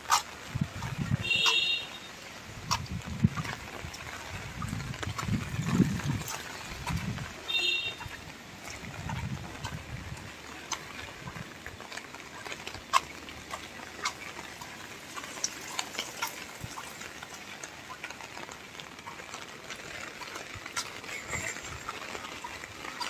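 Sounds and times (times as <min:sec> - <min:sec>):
light rain hiss: 0:00.0 - 0:23.0
raindrops tapping on surfaces: 0:00.0 - 0:23.0.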